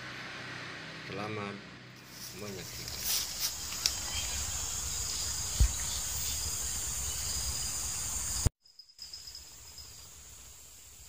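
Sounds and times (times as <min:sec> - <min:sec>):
insects chirring: 0:02.0 - 0:11.0.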